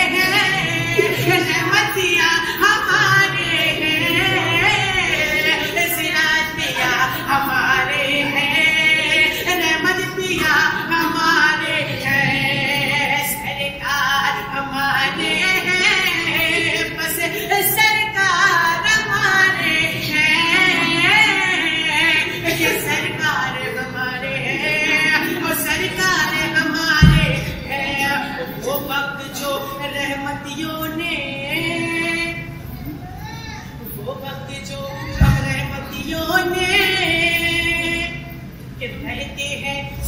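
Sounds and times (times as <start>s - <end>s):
devotional singing with accompaniment: 0.0s - 40.0s.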